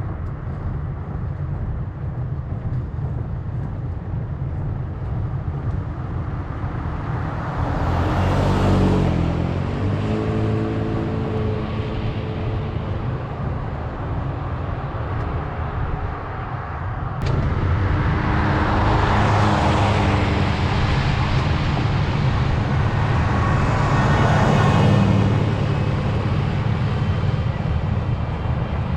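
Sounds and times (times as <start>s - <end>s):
vehicles passing: 0.0s - 28.9s
wind and road noise: 0.0s - 28.9s.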